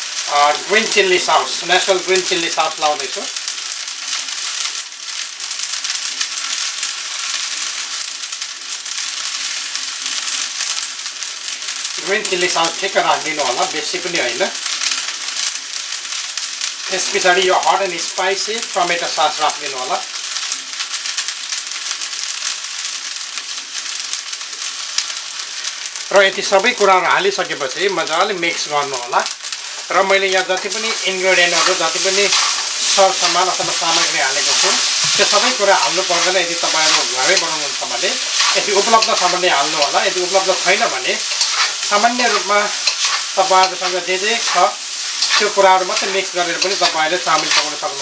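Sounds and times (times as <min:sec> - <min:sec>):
noodles sizzling in a pan: 0:00.0 - 0:48.0.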